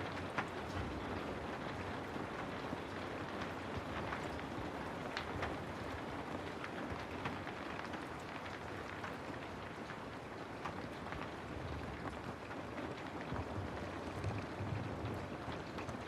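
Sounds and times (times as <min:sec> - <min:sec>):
rain on a hard surface: 0:00.0 - 0:16.0.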